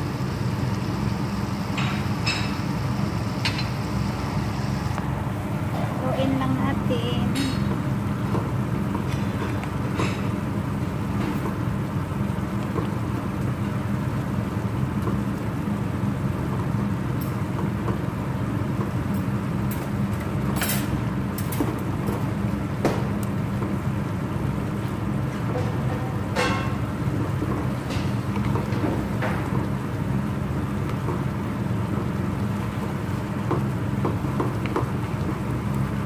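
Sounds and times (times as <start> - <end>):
low kitchen hum: 0.0 - 36.0.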